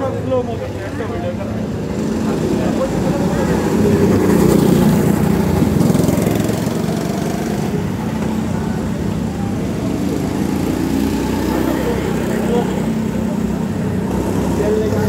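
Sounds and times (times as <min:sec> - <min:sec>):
go-kart engines passing: 0:00.0 - 0:15.0.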